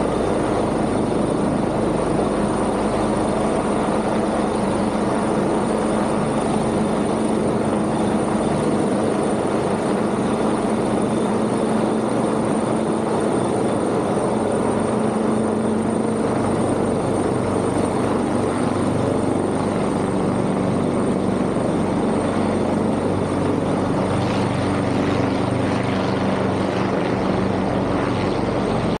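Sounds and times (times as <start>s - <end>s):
helicopter flying past: 0.0s - 29.0s.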